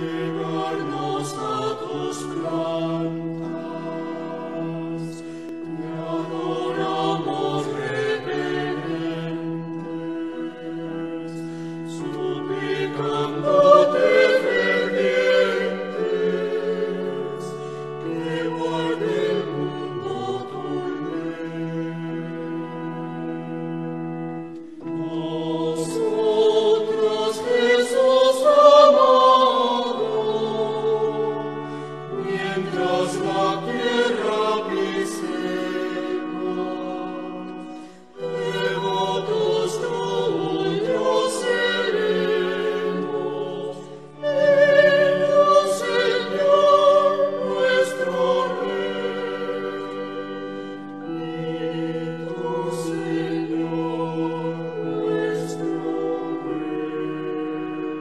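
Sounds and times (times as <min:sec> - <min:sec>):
choir singing sacred music: 0:00.0 - 0:58.0.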